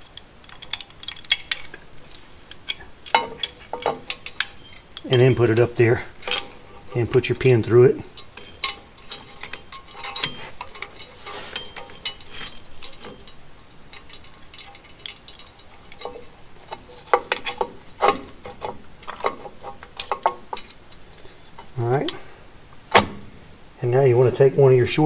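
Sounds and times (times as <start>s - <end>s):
small metal parts clicking: 0.0s - 22.3s.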